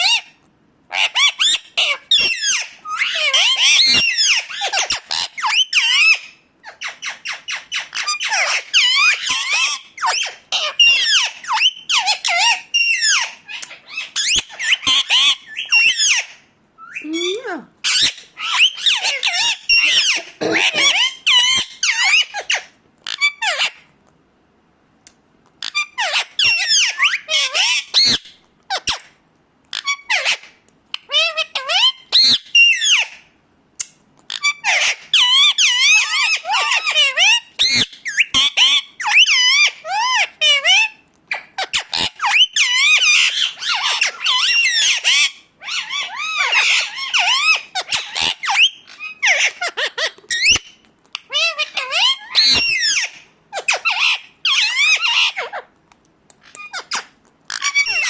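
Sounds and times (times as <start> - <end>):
parakeet squawking: 0.0 - 23.9, 25.6 - 29.1, 29.7 - 33.2, 34.3 - 55.7, 56.4 - 58.0.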